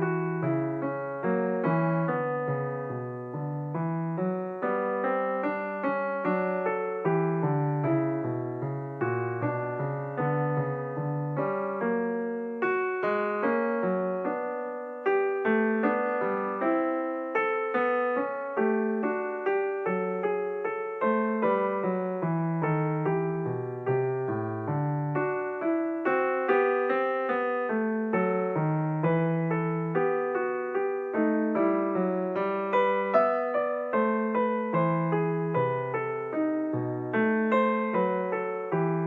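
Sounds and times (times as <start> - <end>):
solo piano music: 0.0 - 39.0.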